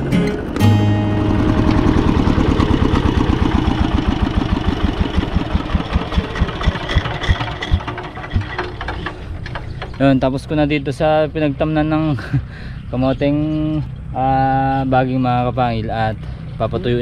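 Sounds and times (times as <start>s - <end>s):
diesel engine chugging: 0.0s - 17.0s.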